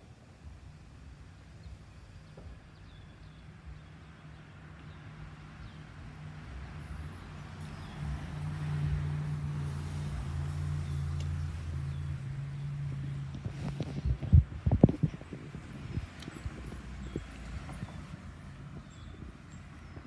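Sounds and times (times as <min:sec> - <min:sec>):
low engine hum: 0:00.1 - 0:20.0.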